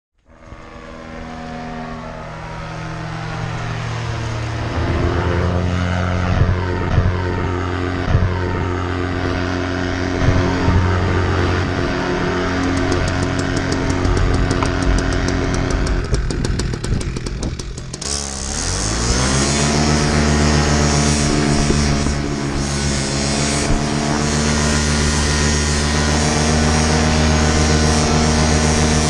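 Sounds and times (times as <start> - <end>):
paramotor engine and propeller: 0.2 - 29.0.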